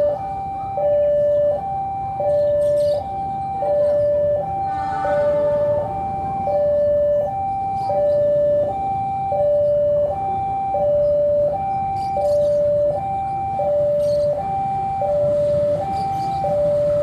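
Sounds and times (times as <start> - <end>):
two-tone crossing warning alarm: 0.0 - 17.0.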